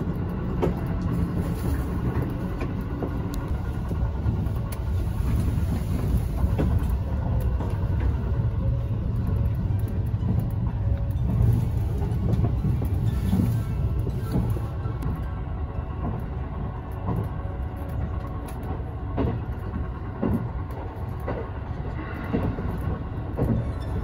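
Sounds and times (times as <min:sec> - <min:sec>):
train wheels rumbling: 0:00.0 - 0:24.0.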